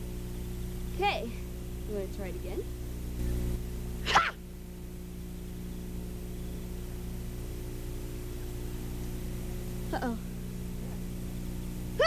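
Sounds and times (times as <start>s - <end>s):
constant hiss: 0.0s - 12.0s
electrical mains hum: 0.0s - 12.0s.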